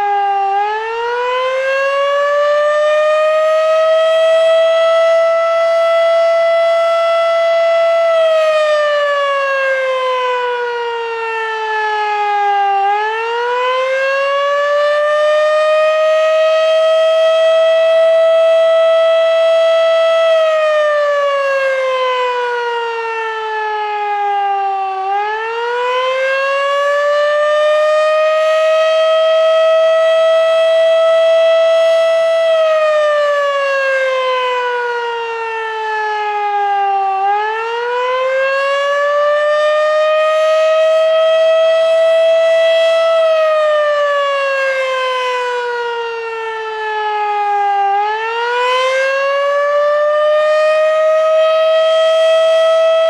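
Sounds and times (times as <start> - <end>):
warning siren rising and falling: 0.0 - 53.0.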